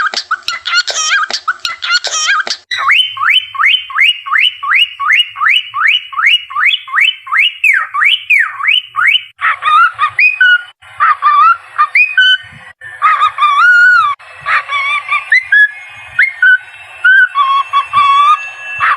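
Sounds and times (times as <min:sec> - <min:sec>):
cockatiel whistling: 0:00.0 - 0:18.9.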